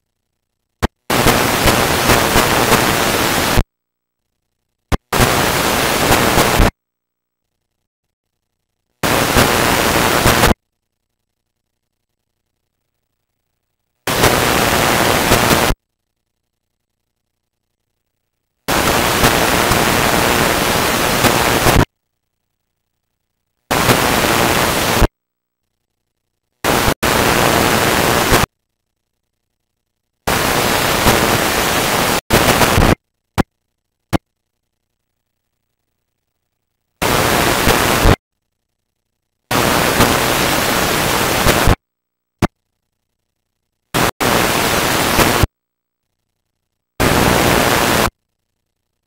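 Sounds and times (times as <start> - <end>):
static hiss bursts: 0.0 - 6.8, 7.4 - 41.8, 42.4 - 49.0.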